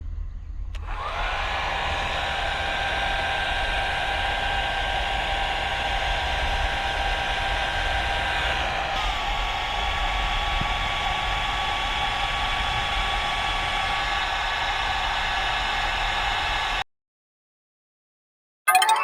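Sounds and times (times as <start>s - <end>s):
hair dryer blowing: 0.8s - 16.8s.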